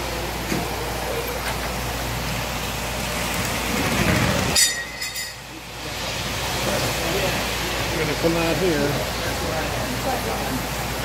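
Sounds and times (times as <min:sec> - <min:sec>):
busy hall background noise: 0:00.0 - 0:11.0.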